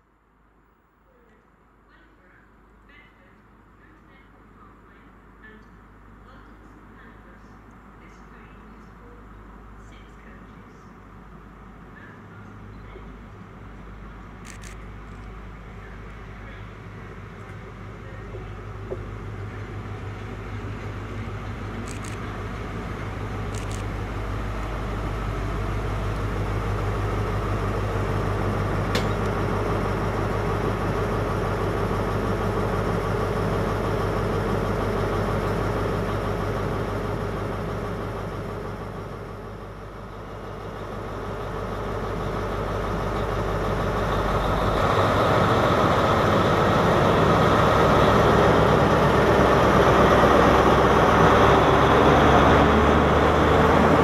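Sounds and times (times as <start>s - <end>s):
diesel train engine humming: 0.0s - 54.0s.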